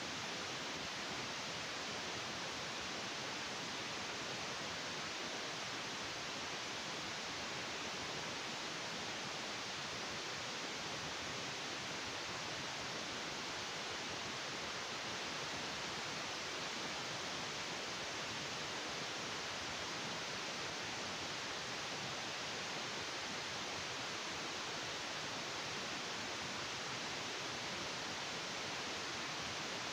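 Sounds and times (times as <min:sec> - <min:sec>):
steady hiss: 0:00.0 - 0:29.9.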